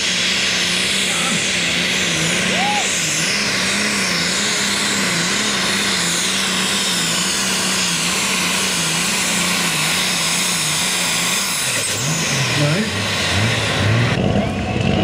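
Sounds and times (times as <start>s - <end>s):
tractor diesel engine at full load: 0.0s - 15.0s.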